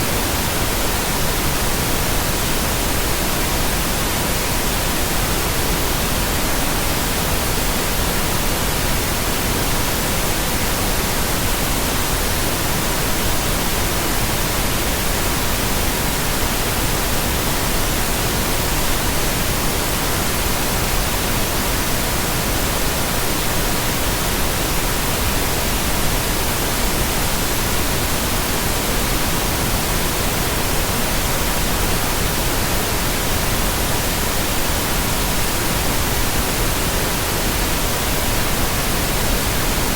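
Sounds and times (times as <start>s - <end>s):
pink noise: 0.0s - 39.9s.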